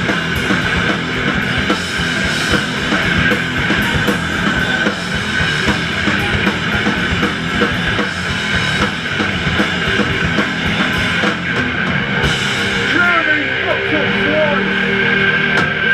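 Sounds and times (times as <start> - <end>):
bass guitar: 0.0 - 15.9
distorted electric guitar: 0.0 - 15.9
fast pounding drums: 0.0 - 15.9.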